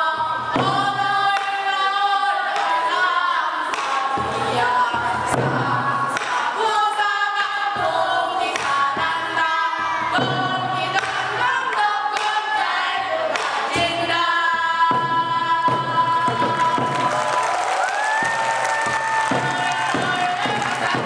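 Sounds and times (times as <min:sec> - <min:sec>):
children singing folk song: 0:00.0 - 0:17.0, 0:19.3 - 0:21.0.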